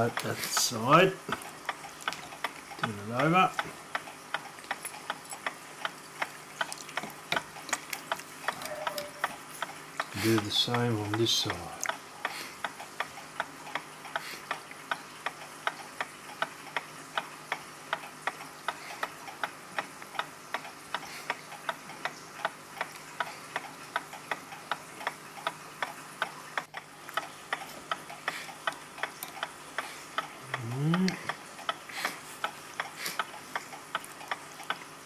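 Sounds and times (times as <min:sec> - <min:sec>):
mechanical clock ticking: 0:00.0 - 0:35.0.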